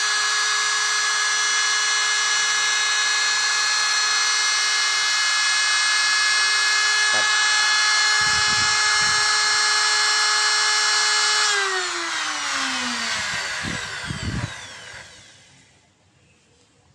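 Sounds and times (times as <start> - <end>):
router spindle whining: 0.0 - 15.8.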